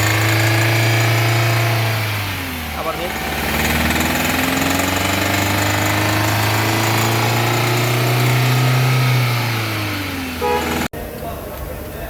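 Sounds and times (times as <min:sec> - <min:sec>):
car engine running with knocking noise: 0:00.0 - 0:12.0.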